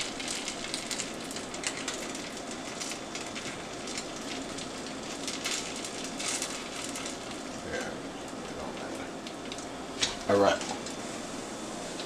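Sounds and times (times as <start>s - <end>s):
crackles and pops: 0.0s - 11.0s.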